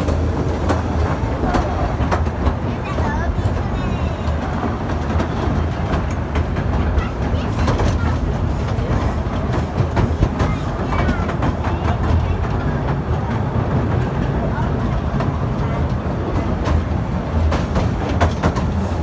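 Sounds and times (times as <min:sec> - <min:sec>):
train rumbling along track: 0:00.0 - 0:19.0
wheels clacking over rails: 0:00.0 - 0:19.0.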